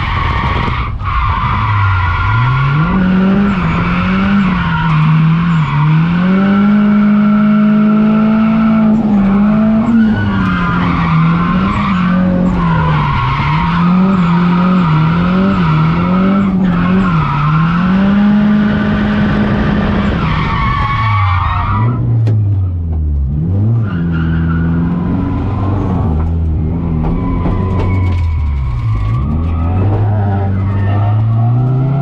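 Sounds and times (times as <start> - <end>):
tires squealing: 0.0 - 22.8, 23.6 - 32.0
car engine revving: 0.0 - 32.0.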